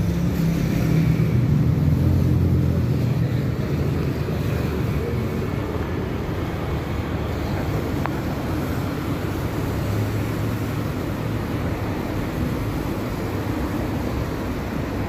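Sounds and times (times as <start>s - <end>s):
low engine hum: 0.0s - 15.0s
motorcycles passing: 0.0s - 15.0s
traffic passing on wet road: 0.0s - 15.0s
tyre noise on wet road: 0.0s - 15.0s.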